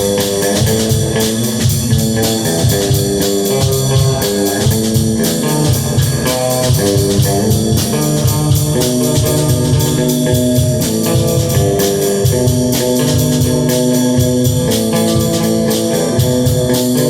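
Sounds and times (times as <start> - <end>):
drum beat with cymbals: 0.0 - 17.0
sustained guitar chords: 0.0 - 17.0.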